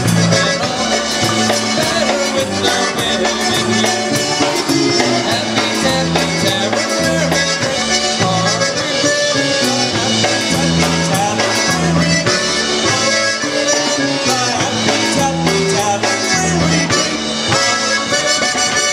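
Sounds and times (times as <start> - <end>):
polka band playing: 0.0 - 18.9.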